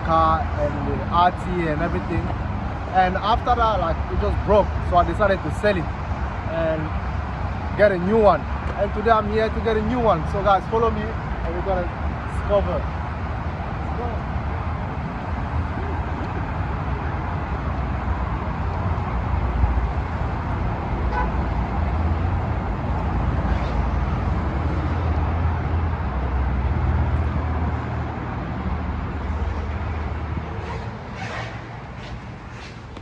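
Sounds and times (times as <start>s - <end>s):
city road traffic rumble: 0.0s - 33.0s.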